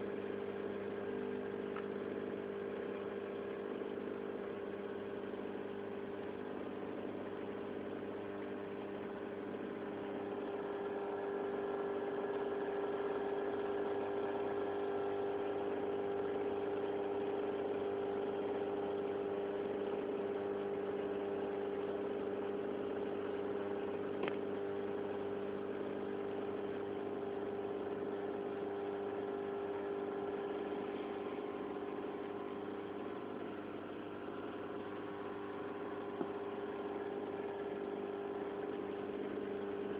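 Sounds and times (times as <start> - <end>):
aquarium pump humming: 0.0 - 39.9.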